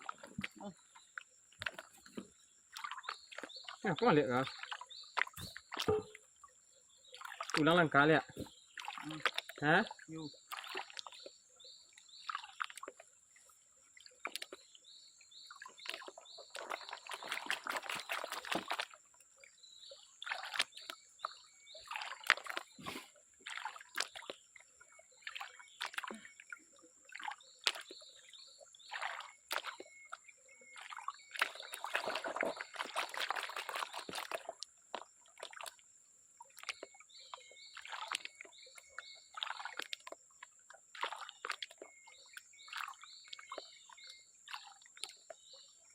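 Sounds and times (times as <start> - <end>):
water sloshing and splashing: 0.0 - 45.9.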